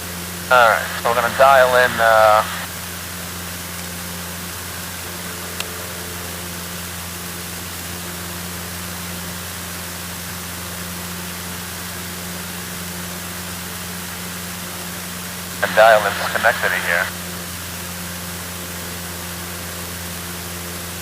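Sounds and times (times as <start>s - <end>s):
aircraft engine and propeller drone: 0.0s - 21.0s.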